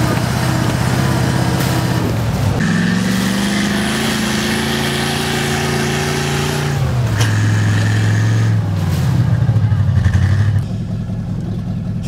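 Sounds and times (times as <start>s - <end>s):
heavy truck engine labouring: 0.0s - 12.0s.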